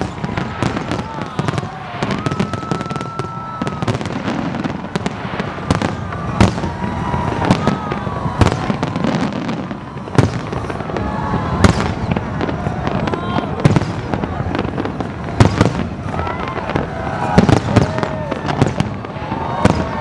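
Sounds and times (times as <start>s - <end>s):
fireworks shells bursting: 0.0s - 20.0s.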